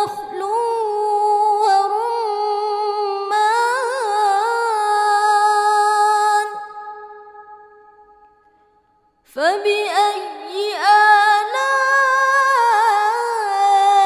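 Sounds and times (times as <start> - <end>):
woman reciting melodically: 0.0 - 7.6, 9.3 - 14.0.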